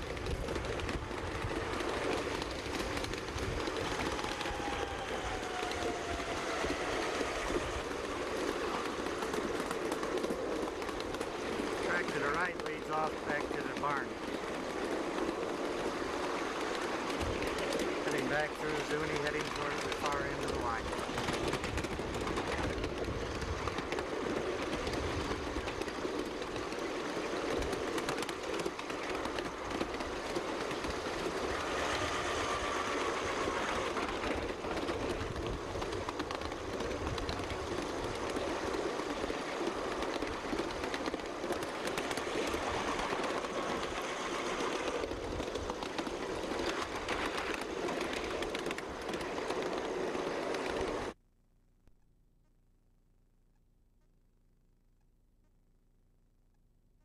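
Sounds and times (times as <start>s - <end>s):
miniature train rumbling on rails: 0.0s - 51.2s.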